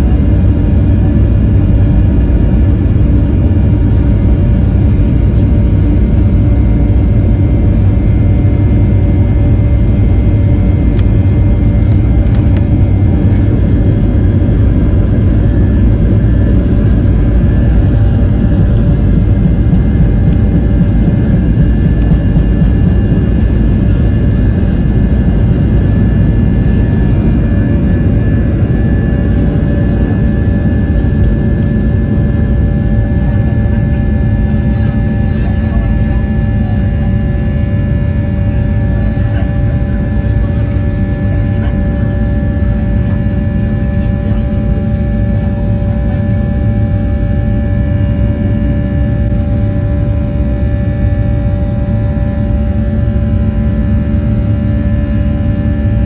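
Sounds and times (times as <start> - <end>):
runway rumble: 0.0 - 46.4
high fan whine: 0.0 - 56.0
jet engines roaring: 0.0 - 56.0.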